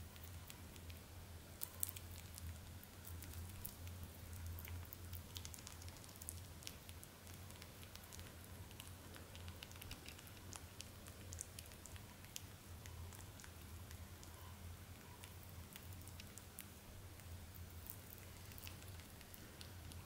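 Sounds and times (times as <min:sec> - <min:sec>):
rabbit chewing clicks: 0:00.0 - 0:01.0, 0:01.6 - 0:20.0.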